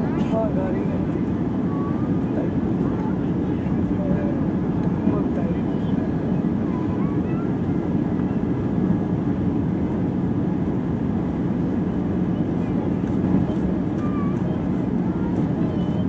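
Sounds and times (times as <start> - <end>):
jet engine roar in cabin: 0.0 - 16.0.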